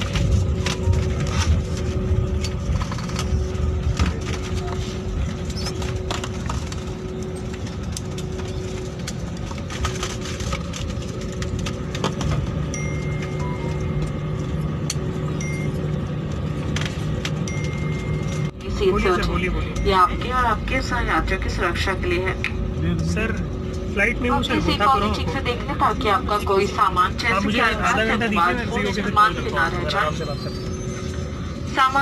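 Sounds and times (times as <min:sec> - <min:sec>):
engine and wheel rumble: 0:00.0 - 0:32.0.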